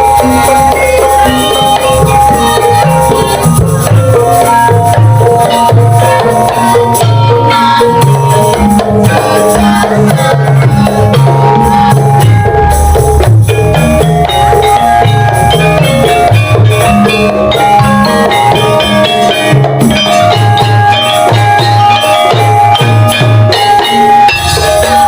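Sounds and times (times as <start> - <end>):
hand drum strokes: 0.0 - 25.0
metallophone and gong-chime tones: 0.0 - 25.0.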